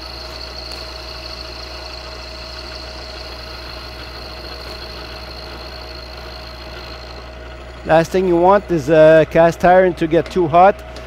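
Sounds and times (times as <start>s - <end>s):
milling machine cutting metal: 0.0s - 11.0s.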